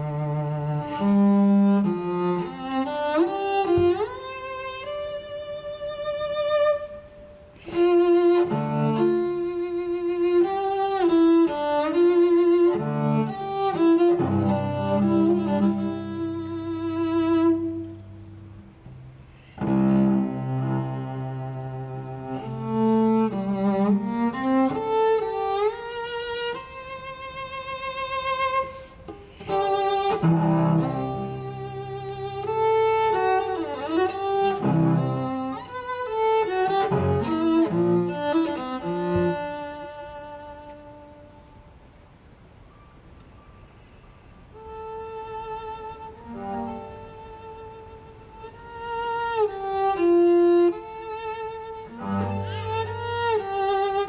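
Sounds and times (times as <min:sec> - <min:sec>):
bowed string instrument melody: 0:00.0 - 0:42.2, 0:44.4 - 0:54.0.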